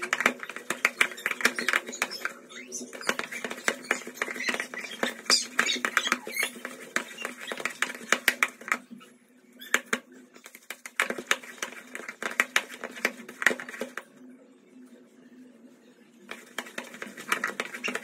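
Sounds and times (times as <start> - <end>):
hands kneading dough in bowl: 0.0 - 8.9, 9.7 - 14.1, 16.3 - 18.0.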